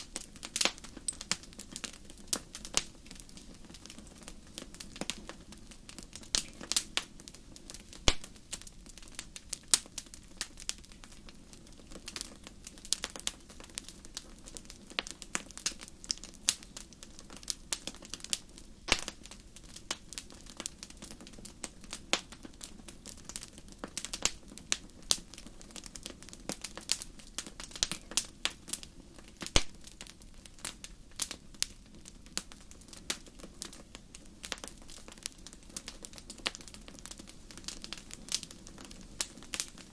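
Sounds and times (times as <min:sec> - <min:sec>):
low rumble of burning: 0:00.0 - 0:39.9
wood fire crackling: 0:00.0 - 0:39.9.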